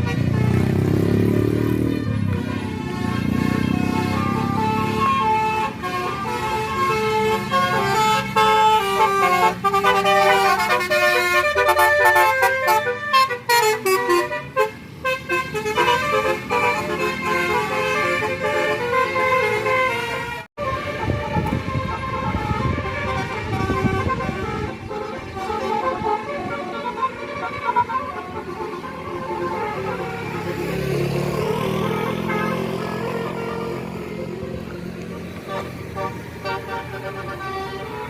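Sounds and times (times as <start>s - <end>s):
bus engine running: 0.0s - 38.0s
multi-tone bus horn tune: 0.0s - 38.0s.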